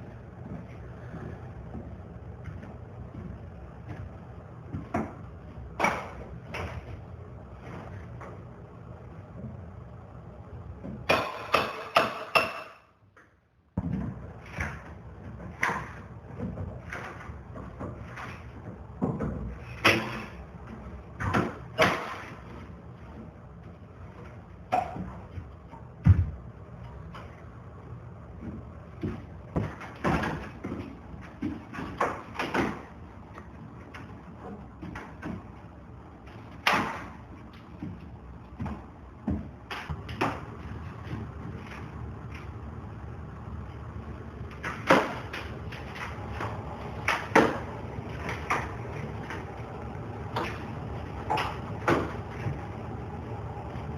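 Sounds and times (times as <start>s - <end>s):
work noise: 0.0s - 53.9s.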